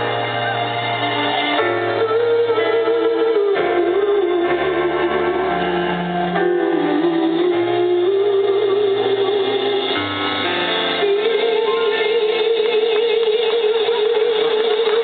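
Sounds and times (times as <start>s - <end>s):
keyboard chords: 0.0s - 15.0s.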